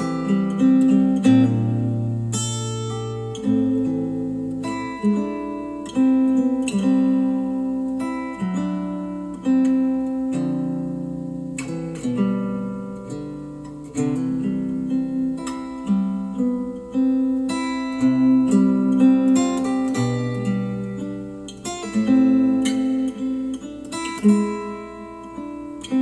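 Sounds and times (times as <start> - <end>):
acoustic guitar chords through speakers: 0.0 - 26.0.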